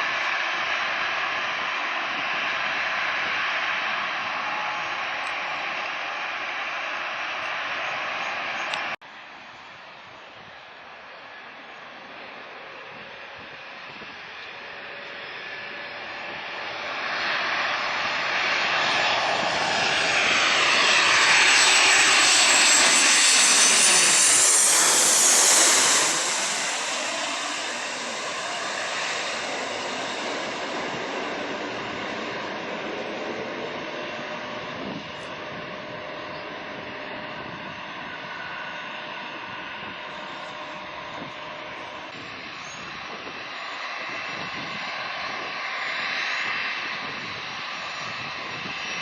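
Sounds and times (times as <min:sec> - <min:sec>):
jet airliner passing: 0:00.0 - 0:09.0, 0:10.0 - 0:49.0.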